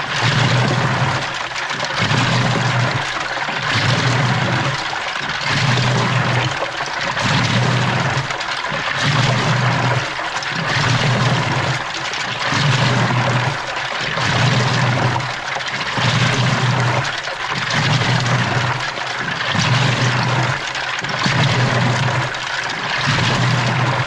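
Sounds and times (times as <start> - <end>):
washing machine motor humming: 0.0 - 24.0
water sloshing in washing machine: 0.0 - 24.0.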